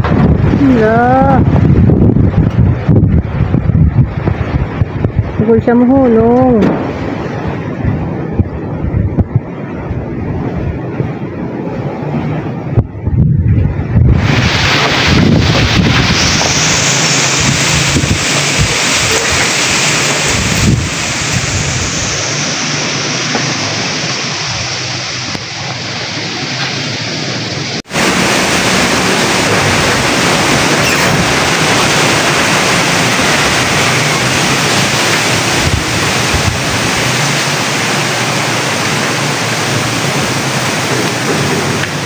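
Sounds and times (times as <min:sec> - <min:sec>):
wind rushing through trees: 0:00.0 - 0:42.0.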